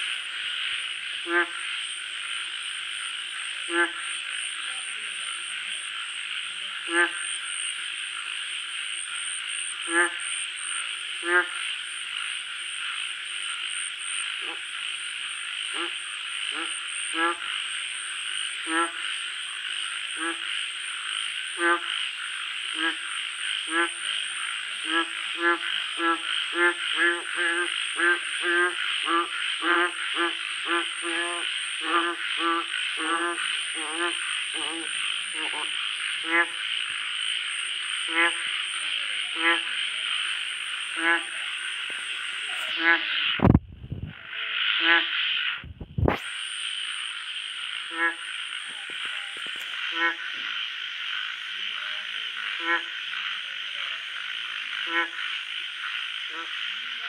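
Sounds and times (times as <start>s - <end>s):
frog croaking: 0.0s - 57.0s.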